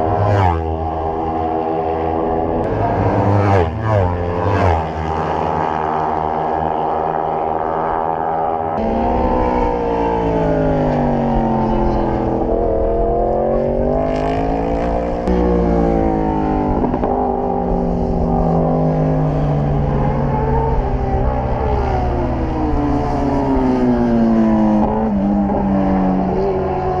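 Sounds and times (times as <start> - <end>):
motorcycle engine running: 1.6 - 26.6.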